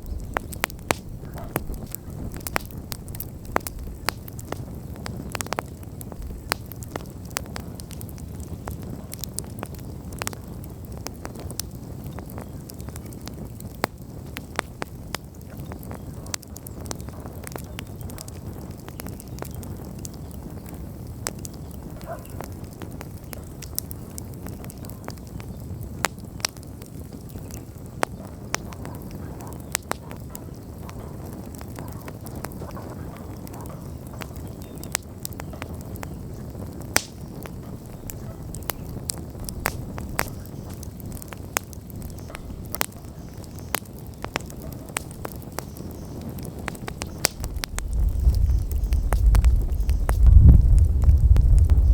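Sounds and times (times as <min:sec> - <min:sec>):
burning wood crackling and popping: 0:00.0 - 0:51.9
campfire flame rushing: 0:00.0 - 0:51.9.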